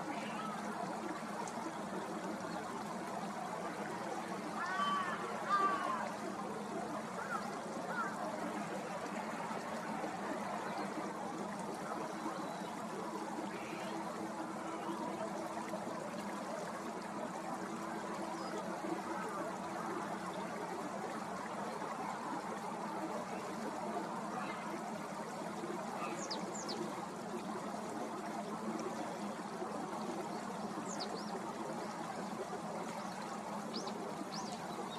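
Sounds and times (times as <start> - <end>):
flowing water: 0.0 - 34.9.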